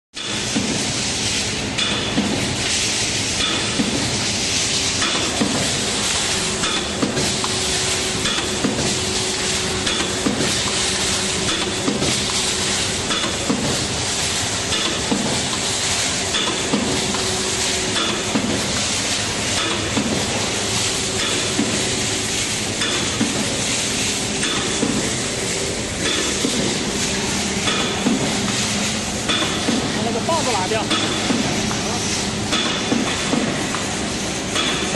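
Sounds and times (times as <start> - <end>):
machinery hiss: 0.2 - 34.9
press machine striking: 3.4 - 4.2, 5.0 - 34.9.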